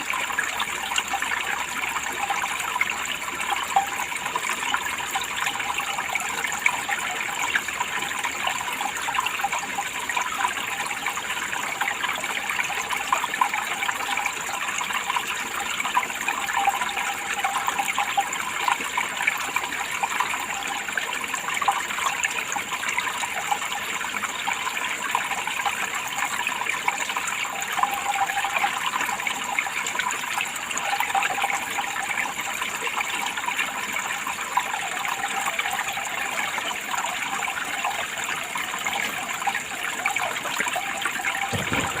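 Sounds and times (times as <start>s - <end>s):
water running and trickling: 0.0s - 42.0s.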